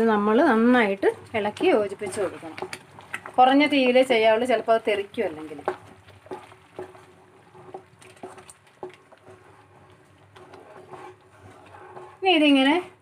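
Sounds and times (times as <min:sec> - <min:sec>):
thick mixture bubbling in a pan: 0:00.0 - 0:13.0
wooden spatula stirring: 0:00.0 - 0:13.0.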